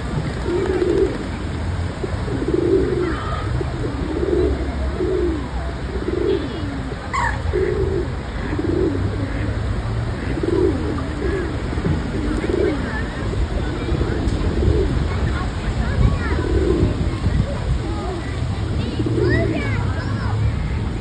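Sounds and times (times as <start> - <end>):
bird low calls: 0.0 - 21.0.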